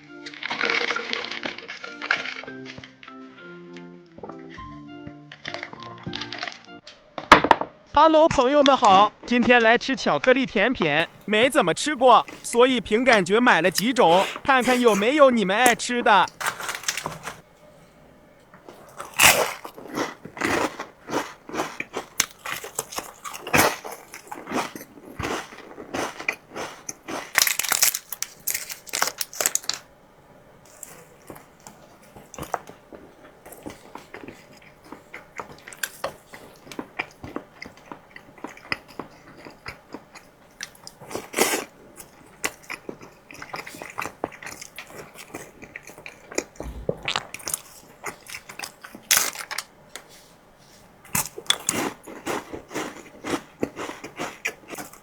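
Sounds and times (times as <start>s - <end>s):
chocolate dessert crunching: 0.0s - 2.6s, 11.0s - 50.1s, 51.0s - 55.0s.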